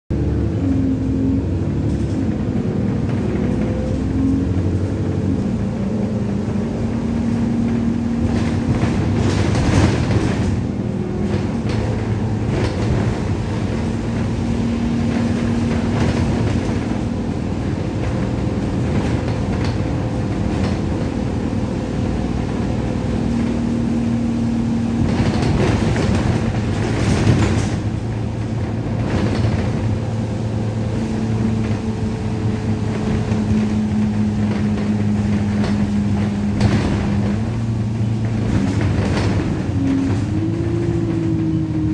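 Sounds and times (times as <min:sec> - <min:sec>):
bus engine humming: 0:00.1 - 0:41.9
tyre and road noise: 0:00.1 - 0:41.9.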